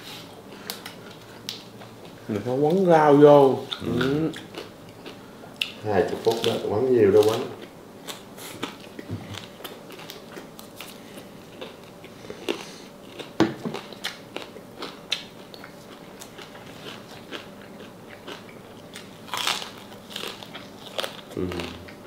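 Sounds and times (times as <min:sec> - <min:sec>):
crunchy chewing: 0:03.6 - 0:22.0.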